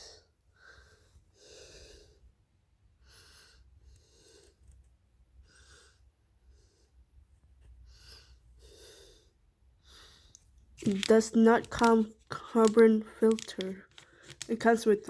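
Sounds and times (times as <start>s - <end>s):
soft breaths: 0.0s - 11.2s, 12.1s - 14.6s.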